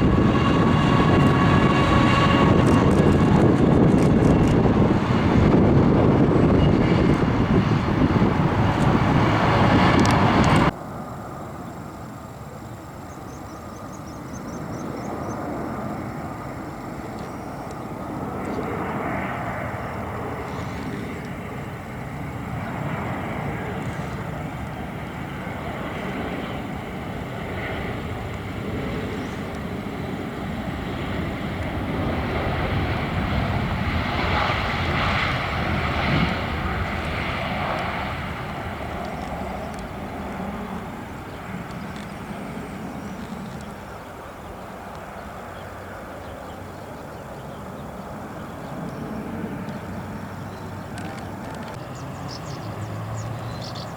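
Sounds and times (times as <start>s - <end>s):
airliner engines roaring: 0.0s - 53.9s.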